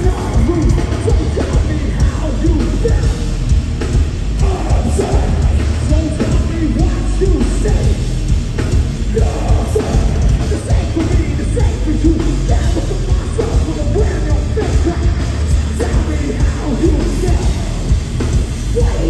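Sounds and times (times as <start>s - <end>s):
distorted guitars: 0.0s - 19.0s
heavy drums: 0.0s - 19.0s
metal band playing live: 0.0s - 19.0s.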